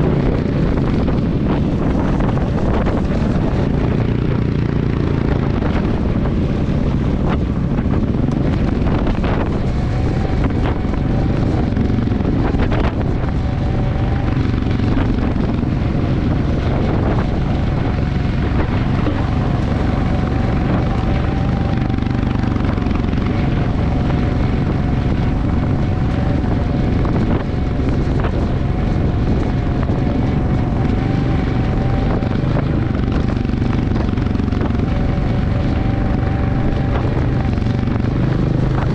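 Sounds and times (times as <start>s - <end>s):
motorcycle engine cruising: 0.0s - 38.9s
wind on microphone: 0.0s - 38.9s.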